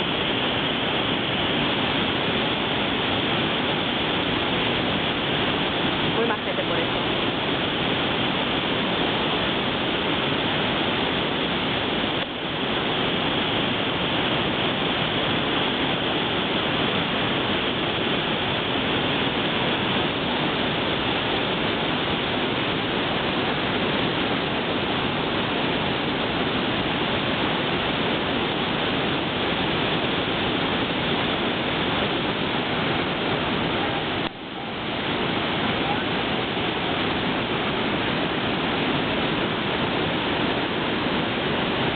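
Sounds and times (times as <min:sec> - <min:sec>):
waterfall roaring: 0:00.0 - 0:41.9.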